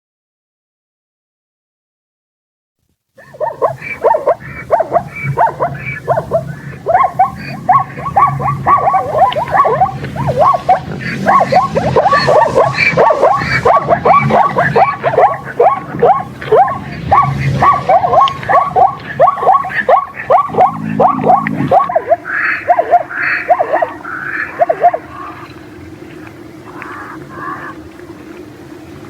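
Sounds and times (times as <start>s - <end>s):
zebra barking calls: 3.2s - 28.0s.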